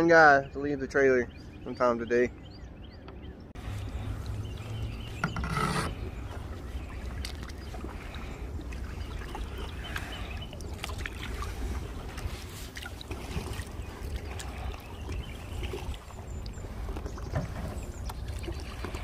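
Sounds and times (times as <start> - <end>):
paddle splashing water: 3.6 - 19.0.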